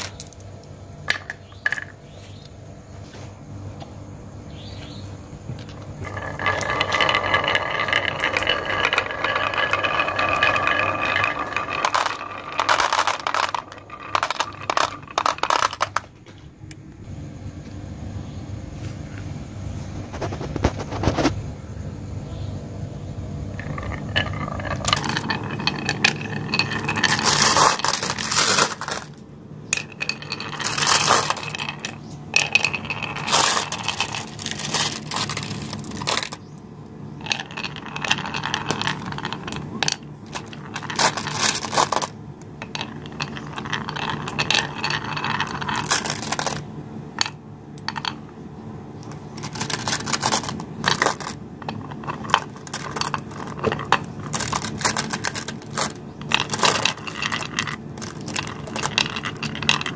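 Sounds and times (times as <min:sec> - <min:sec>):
marbles rolling on wood: 0:00.0 - 0:03.3, 0:04.5 - 0:16.8, 0:20.1 - 0:21.4, 0:23.2 - 0:59.9.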